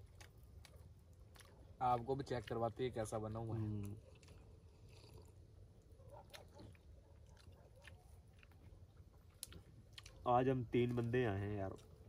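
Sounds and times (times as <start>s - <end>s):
chewing bread: 0.0s - 12.0s.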